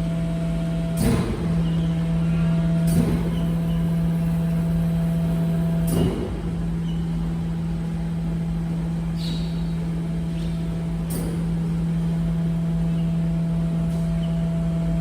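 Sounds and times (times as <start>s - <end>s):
garbage truck humming: 0.0s - 15.0s.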